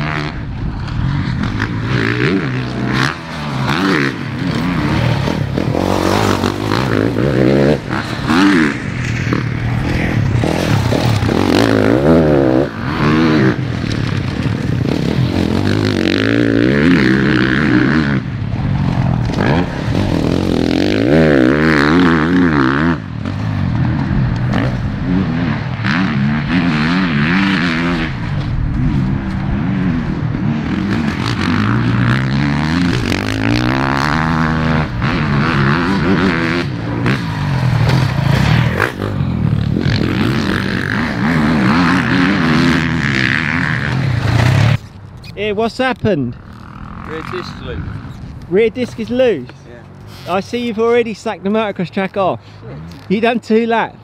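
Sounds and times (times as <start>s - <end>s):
motocross bike engine revving: 0.0s - 45.0s.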